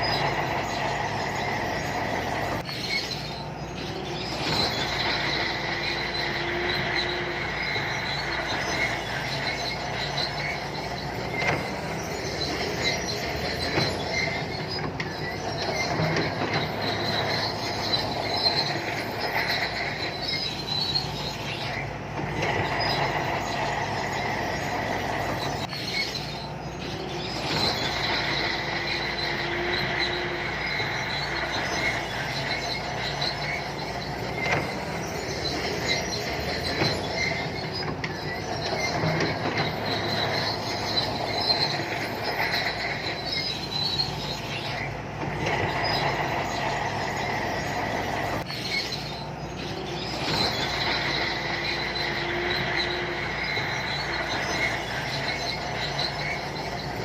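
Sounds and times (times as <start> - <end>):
diesel engine droning: 0.0 - 57.0
steel tracks squealing and clanking: 0.0 - 57.0.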